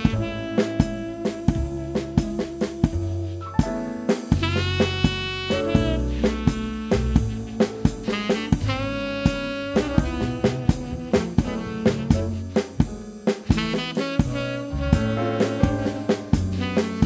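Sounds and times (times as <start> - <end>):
electronic drum kit playing: 0.0 - 17.0
swing jazz backing track: 0.0 - 17.0.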